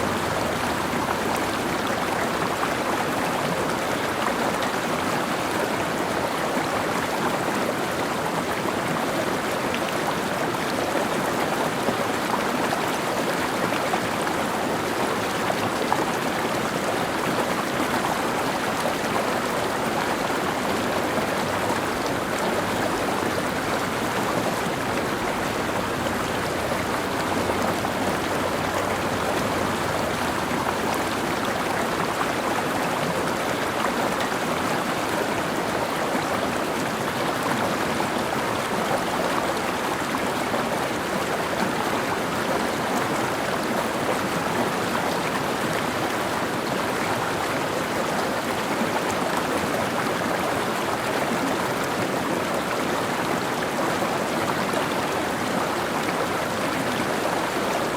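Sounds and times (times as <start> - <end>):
water rushing over rocks: 0.0 - 57.9.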